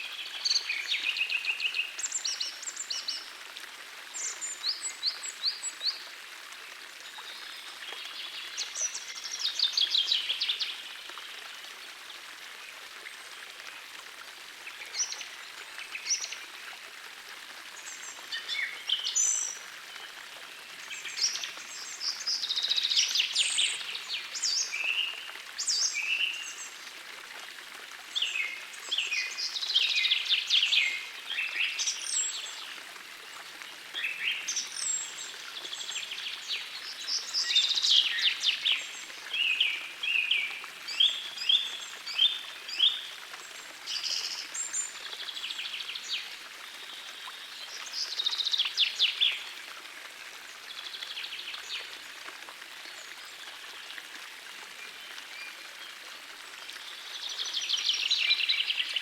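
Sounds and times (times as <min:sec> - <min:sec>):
gentle stream rushing: 0:00.0 - 0:59.0.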